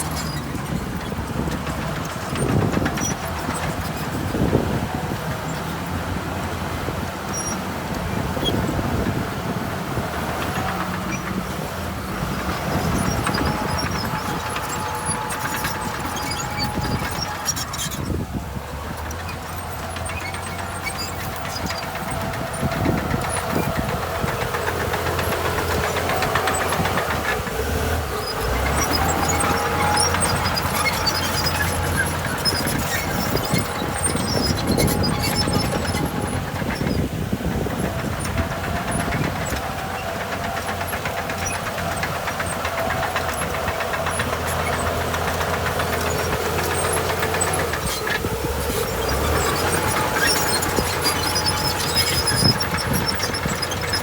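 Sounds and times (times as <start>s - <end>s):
diesel machinery running: 0.0s - 54.0s
rattling clatter: 0.0s - 54.0s.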